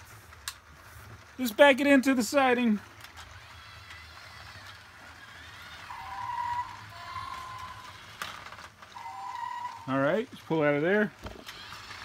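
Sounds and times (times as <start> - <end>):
toy train motor whining: 0.0 - 12.0.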